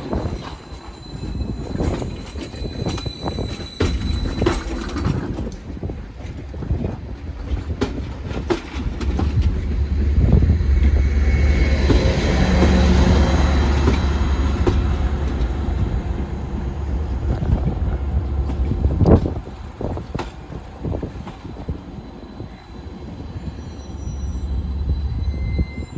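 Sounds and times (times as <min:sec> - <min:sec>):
train rumbling past: 0:00.0 - 0:25.9.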